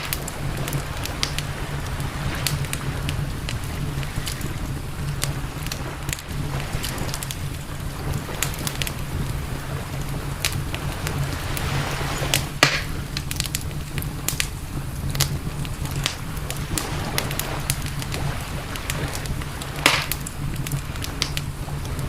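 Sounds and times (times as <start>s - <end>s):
campfire crackling: 0.0s - 22.0s
fire pops: 0.0s - 22.0s
low rumble: 0.0s - 22.0s.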